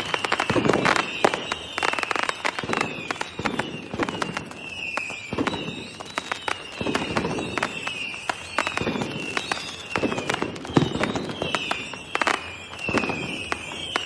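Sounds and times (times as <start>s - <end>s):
falling whistle: 0.0s - 14.0s
firecrackers cracking and popping: 0.0s - 14.0s.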